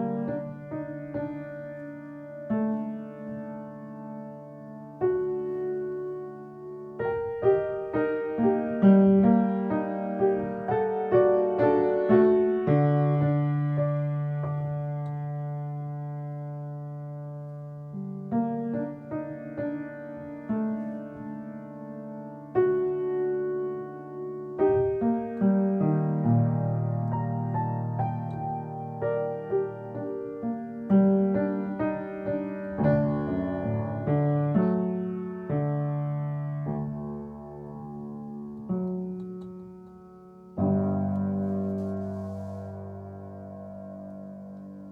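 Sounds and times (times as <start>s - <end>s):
slow piano music: 0.0s - 44.9s.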